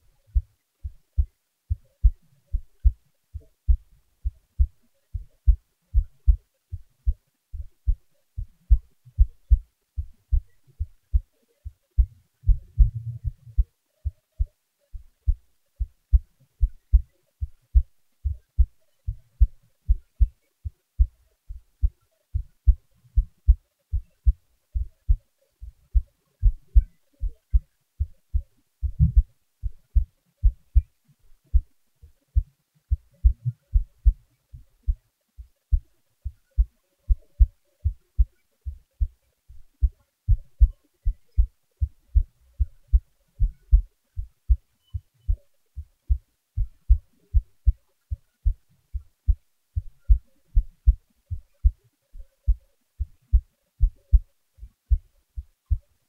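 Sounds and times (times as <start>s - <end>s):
heartbeat: 0.0s - 56.0s.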